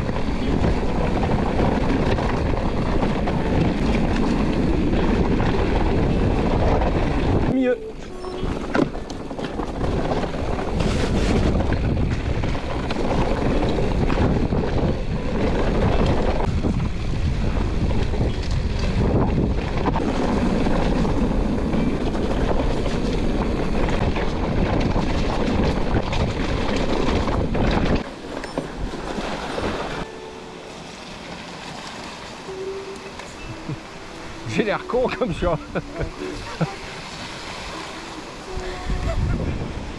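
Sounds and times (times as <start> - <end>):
wind rushing over microphone: 0.0 - 30.1, 33.4 - 39.9
bike rolling noise: 0.0 - 39.9.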